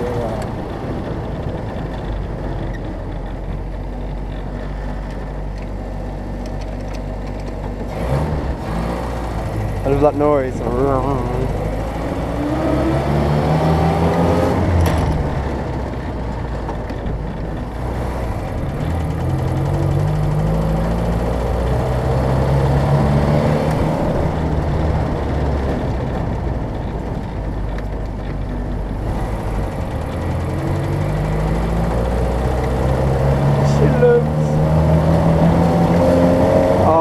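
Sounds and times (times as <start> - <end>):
engine revving while driving: 0.0 - 5.3, 7.1 - 37.0.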